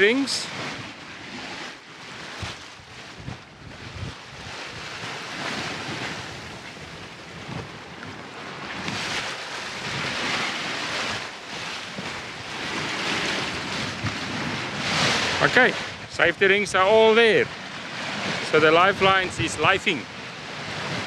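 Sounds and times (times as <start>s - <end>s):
water rushing along hull: 0.0s - 21.0s
wind buffeting microphone: 0.0s - 21.0s.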